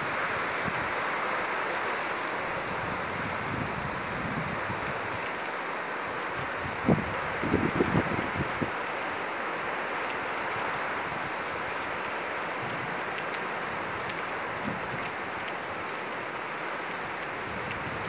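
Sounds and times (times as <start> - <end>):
heavy rain on plants: 0.0 - 18.0.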